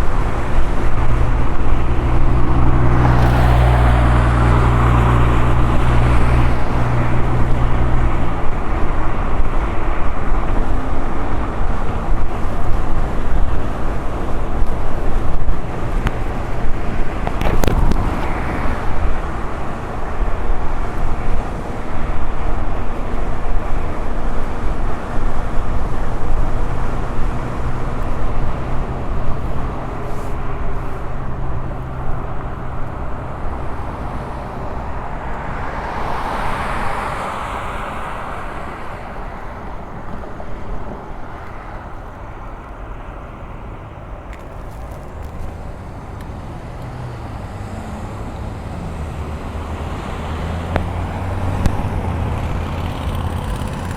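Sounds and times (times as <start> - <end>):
road noise: 0.0 - 53.9
wind rumble on microphone: 0.0 - 53.9.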